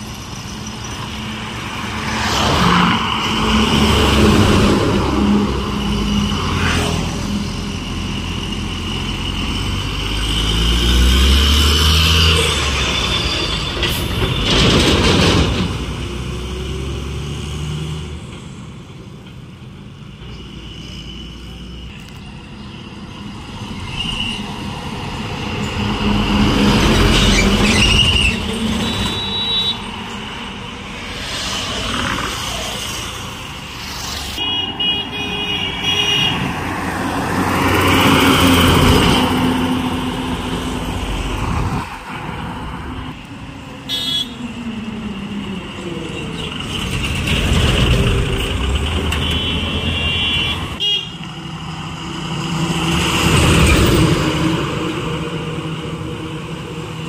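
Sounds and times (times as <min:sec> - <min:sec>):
trucks passing close by: 0:00.0 - 0:57.0.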